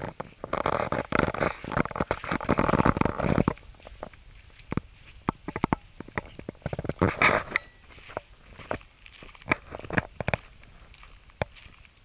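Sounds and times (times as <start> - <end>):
microphone handling rustle: 0.0 - 12.0.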